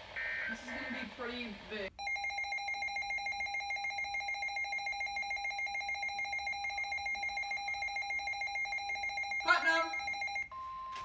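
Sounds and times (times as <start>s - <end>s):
rapid high alarm beeping: 2.0s - 11.0s.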